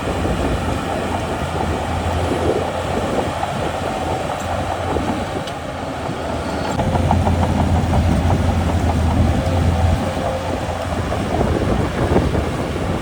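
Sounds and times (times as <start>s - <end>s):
diesel machinery engine drone: 0.0s - 13.0s.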